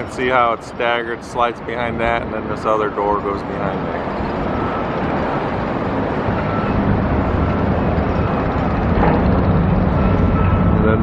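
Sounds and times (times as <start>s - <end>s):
motor vehicle engine rumble: 0.0s - 11.0s.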